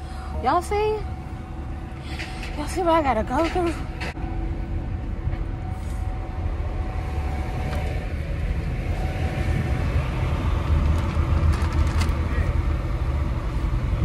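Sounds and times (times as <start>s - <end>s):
vehicle rumble inside car: 0.0s - 14.0s.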